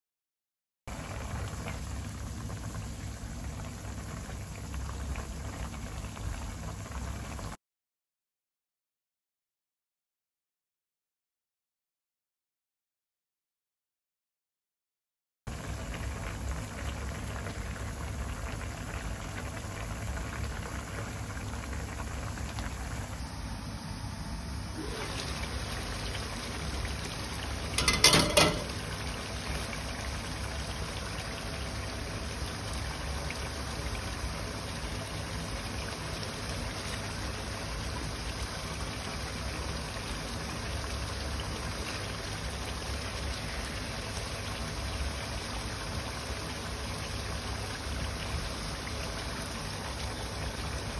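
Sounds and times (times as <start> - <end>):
sauce bubbling in a wok: 0.9 - 7.6, 15.5 - 50.9.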